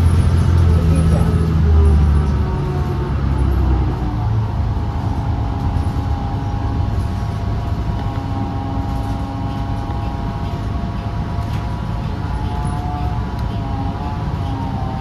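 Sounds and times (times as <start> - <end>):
bus engine rumble on board: 0.0 - 15.0
steady whining tones: 0.0 - 15.0.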